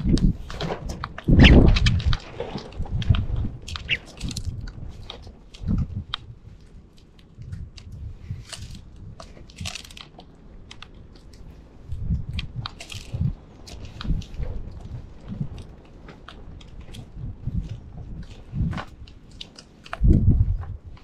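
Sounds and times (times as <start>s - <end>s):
birds cracking seed: 0.0s - 20.2s.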